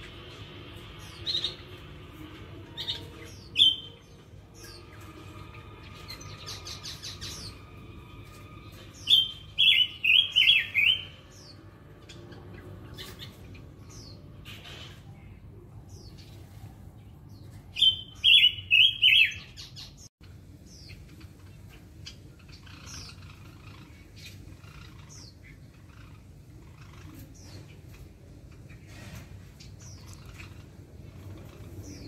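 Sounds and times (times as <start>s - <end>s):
cage birds chirping: 0.0s - 32.0s.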